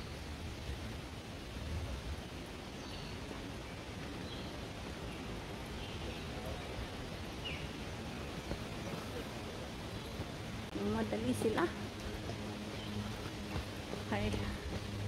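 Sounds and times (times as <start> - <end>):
steady low rush of noise: 0.0 - 15.0.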